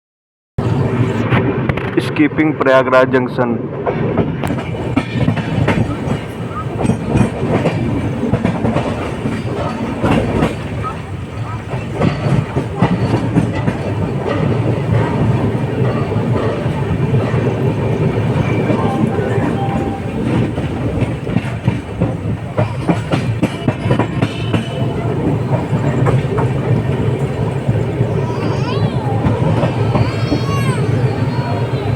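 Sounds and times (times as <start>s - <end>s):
train rumbling: 0.6s - 31.9s
wheels clattering over rail joints: 4.0s - 31.9s.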